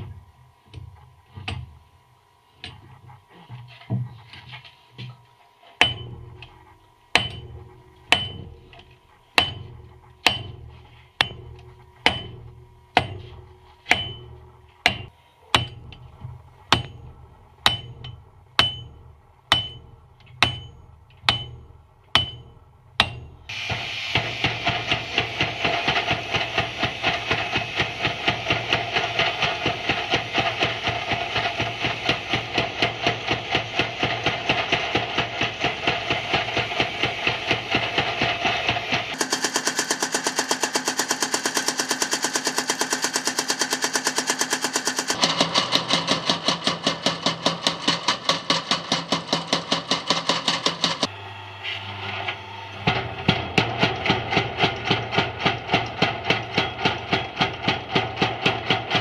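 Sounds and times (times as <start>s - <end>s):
hammer striking steel on anvil: 0.0s - 1.9s, 2.6s - 2.9s, 5.8s - 51.1s, 52.8s - 59.0s.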